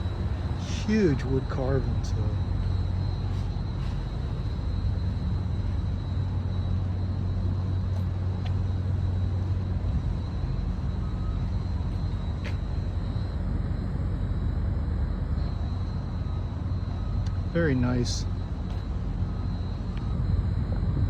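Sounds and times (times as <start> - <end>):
low rumble of city background: 0.0 - 21.0.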